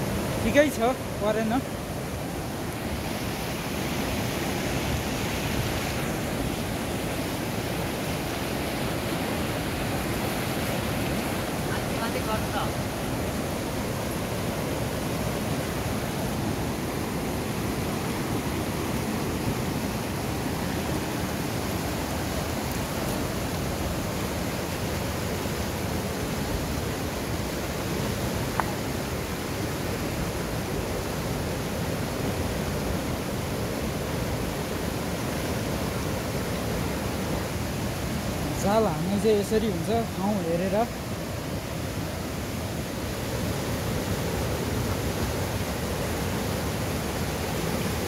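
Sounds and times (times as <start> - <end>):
stream rushing over boulders: 0.0 - 48.0.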